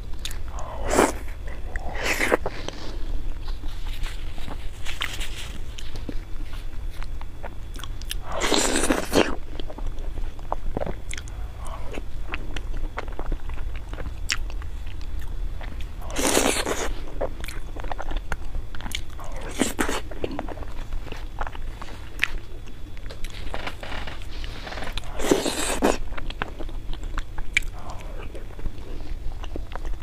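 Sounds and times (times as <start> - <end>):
wet chewing and mouth clicks: 0.1 - 2.8, 6.9 - 30.0.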